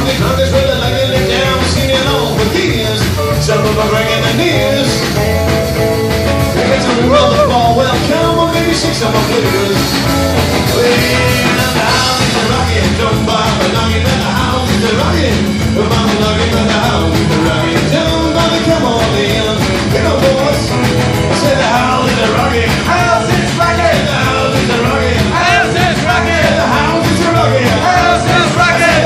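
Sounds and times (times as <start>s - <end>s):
rockabilly band playing: 0.0s - 29.0s.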